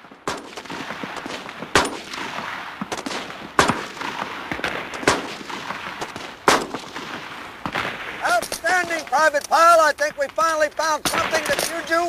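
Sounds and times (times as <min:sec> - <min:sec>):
rifle shots with echo: 0:00.0 - 0:09.4, 0:10.0 - 0:12.0.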